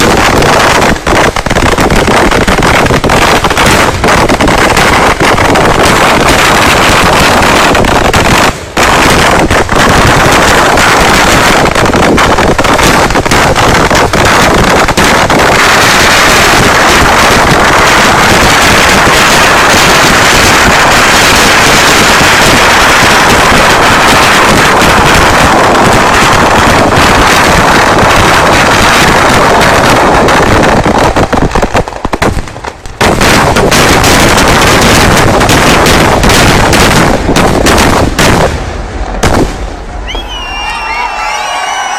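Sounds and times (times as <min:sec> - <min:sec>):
firecracker explosions: 0:00.0 - 0:41.9.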